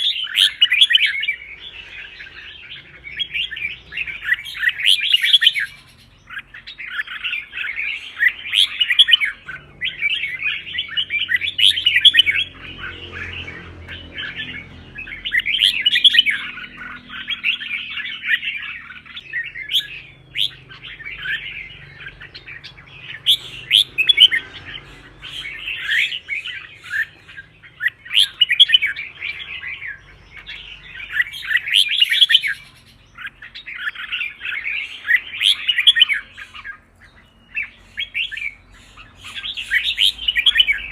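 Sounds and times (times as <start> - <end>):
bulbul warbling song: 0.0 - 40.9.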